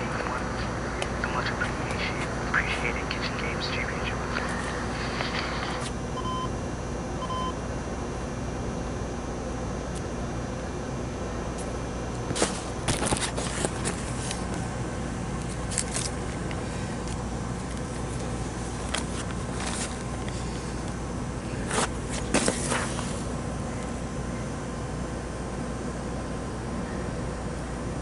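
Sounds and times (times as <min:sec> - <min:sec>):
background hiss and hum: 0:00.0 - 0:28.0.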